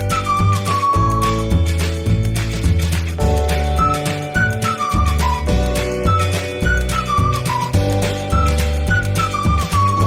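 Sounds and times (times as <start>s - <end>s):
whistled melody over bass beat: 0.0s - 10.0s.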